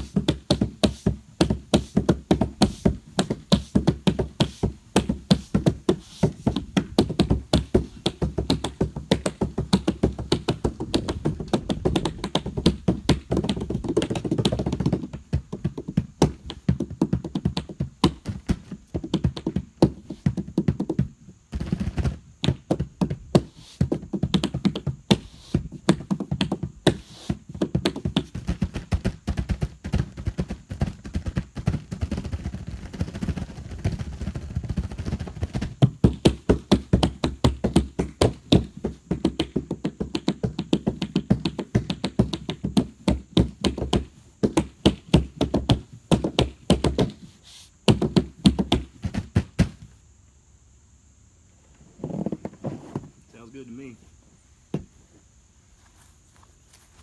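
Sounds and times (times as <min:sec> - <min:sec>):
hands drumming on canoe hull: 0:00.0 - 0:49.8.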